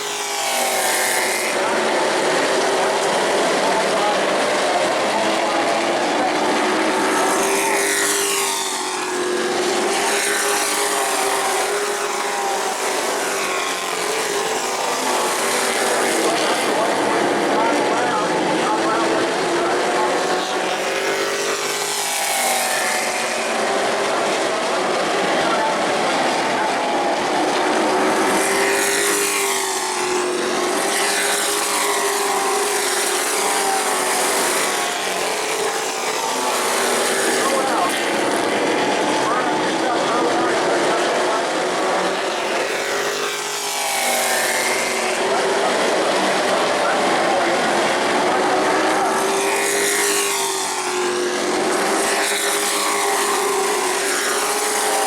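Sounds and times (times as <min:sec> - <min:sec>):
race truck engines passing: 0:00.0 - 0:55.0.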